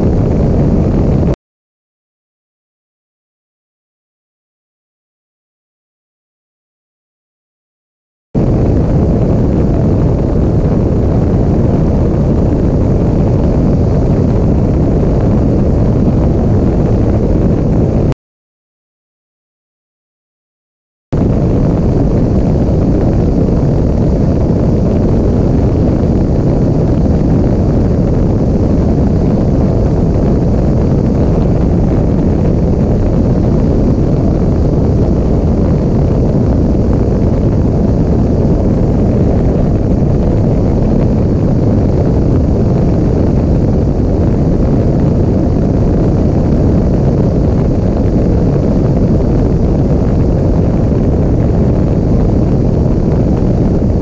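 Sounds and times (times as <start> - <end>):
airplane engine and slipstream: 0.0 - 1.4, 8.4 - 18.2, 21.2 - 54.0
wind buffeting microphone: 0.0 - 1.4, 8.4 - 18.2, 21.2 - 54.0.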